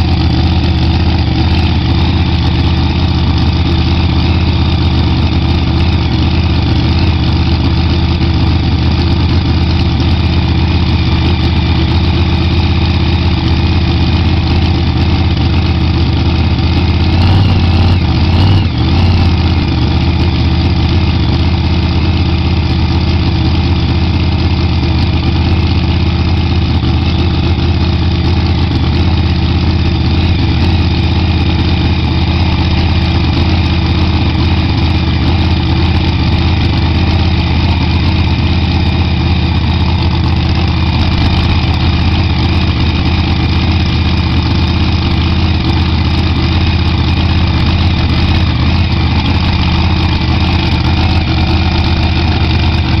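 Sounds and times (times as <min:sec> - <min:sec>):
loud engine idling: 0:00.0 - 0:53.0.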